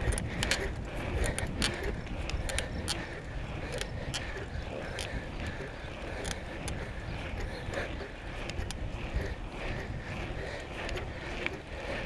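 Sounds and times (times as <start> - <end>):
bicycle clicks and rattles: 0.0 - 12.0
wind rumbling on microphone: 0.0 - 12.0.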